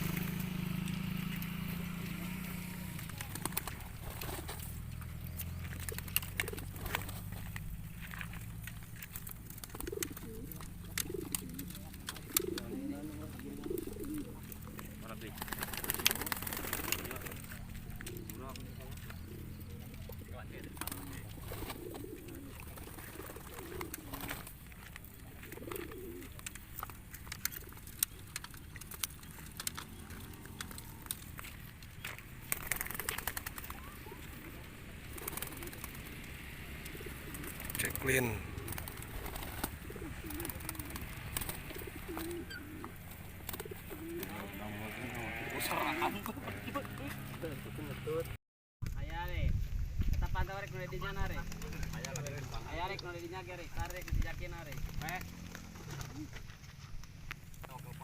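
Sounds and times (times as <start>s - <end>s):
pigeons cooing: 0.0s - 48.0s, 51.5s - 57.0s.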